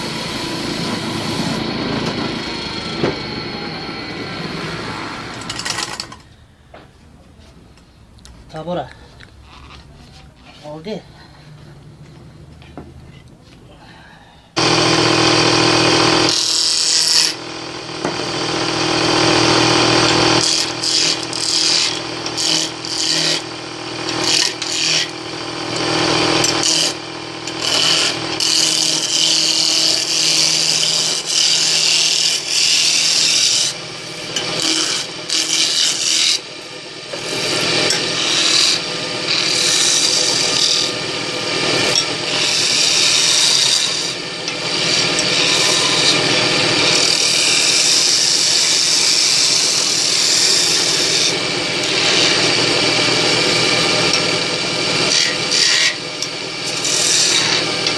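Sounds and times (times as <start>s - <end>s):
lathe motor hum: 0.0s - 6.2s, 14.6s - 57.9s
lathe tool cutting wood: 0.0s - 6.2s, 14.6s - 57.9s.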